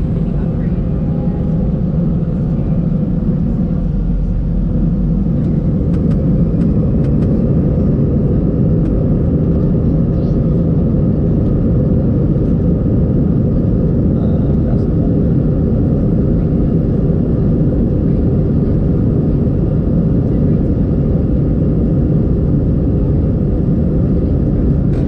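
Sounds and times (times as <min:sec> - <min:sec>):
jet engines rumbling at takeoff: 0:00.0 - 0:25.0.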